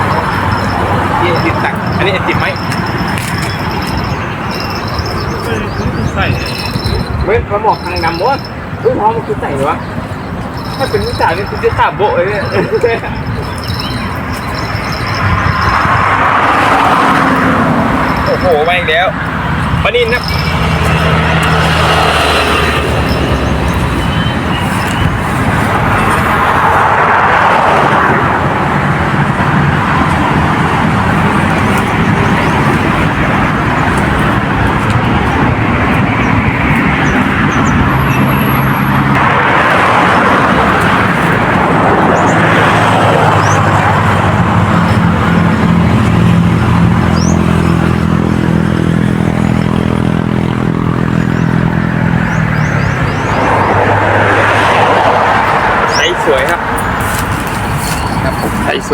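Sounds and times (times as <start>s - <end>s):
vehicles passing: 0.0s - 58.9s.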